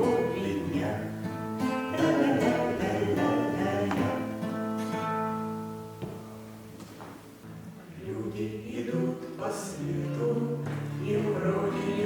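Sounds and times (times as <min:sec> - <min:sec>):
acoustic guitar strummed chords: 0:00.0 - 0:12.0.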